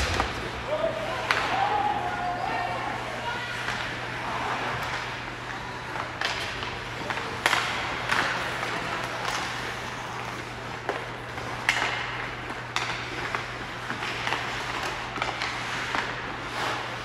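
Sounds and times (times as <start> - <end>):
hockey sticks and puck clacking: 0.0 - 2.1, 3.5 - 17.0.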